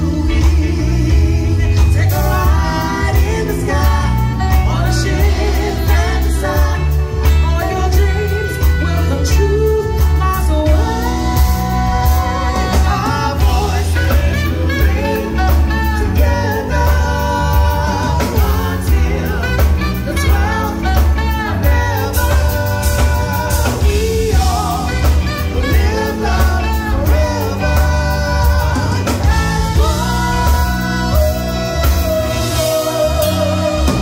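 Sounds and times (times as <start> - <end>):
backing singers: 0.0 - 34.0
drum kit: 0.0 - 34.0
electric bass: 0.0 - 34.0
keyboards: 0.0 - 34.0
woman singing lead: 0.0 - 34.0.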